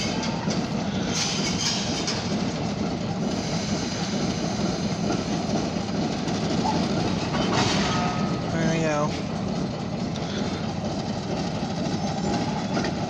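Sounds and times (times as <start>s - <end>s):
diesel locomotive running: 0.0s - 13.0s.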